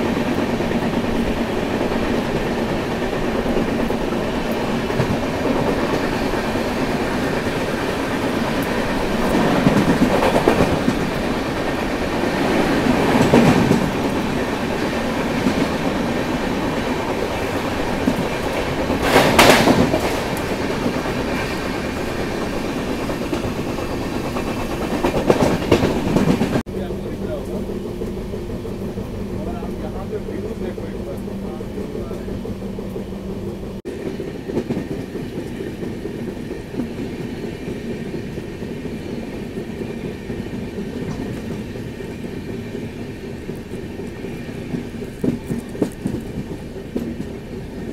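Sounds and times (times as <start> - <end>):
train wheels on rails: 0.0 - 47.9.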